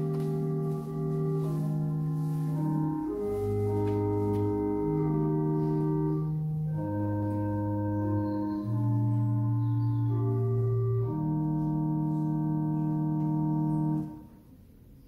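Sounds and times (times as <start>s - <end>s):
church organ chords: 0.0s - 14.6s.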